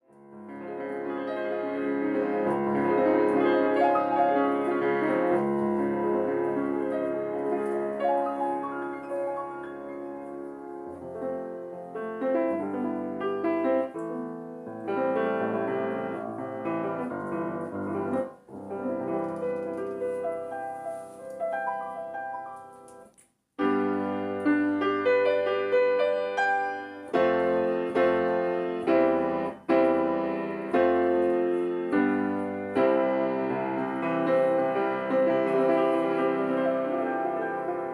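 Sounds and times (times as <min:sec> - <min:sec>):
grand piano chords and melody: 0:00.0 - 0:37.9.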